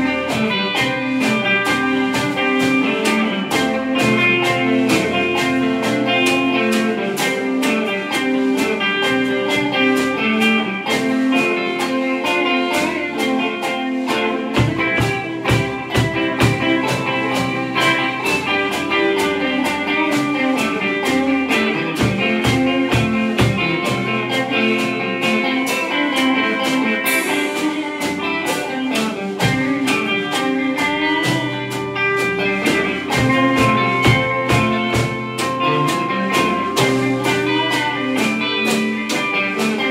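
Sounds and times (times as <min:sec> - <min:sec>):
drum beat with cymbals: 0:00.0 - 0:39.9
electric guitars playing riffs: 0:00.0 - 0:39.9.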